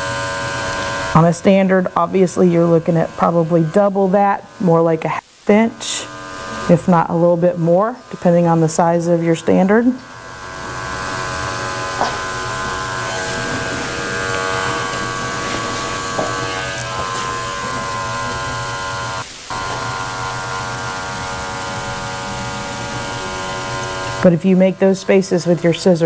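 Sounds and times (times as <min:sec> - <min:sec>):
electric clipper buzzing: 0:00.0 - 0:04.8, 0:05.8 - 0:24.4.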